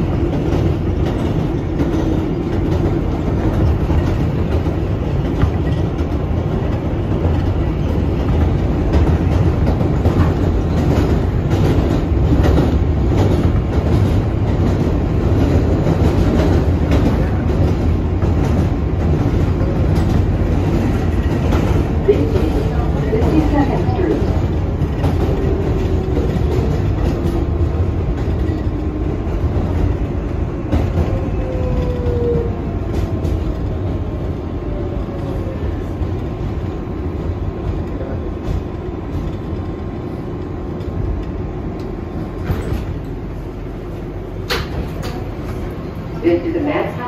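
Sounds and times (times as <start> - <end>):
subway train rumble and rail noise: 0.0 - 47.0.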